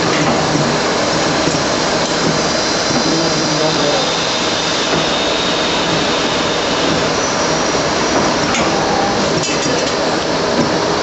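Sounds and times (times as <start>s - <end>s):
lathe running: 0.0s - 11.0s.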